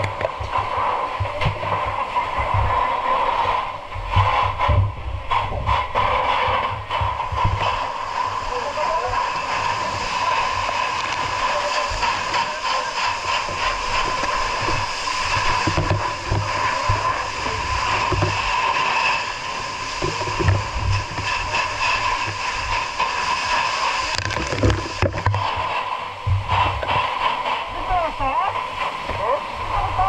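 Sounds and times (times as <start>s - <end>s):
constant high whine: 0.0s - 30.0s
fire hoses spraying water: 0.0s - 30.0s.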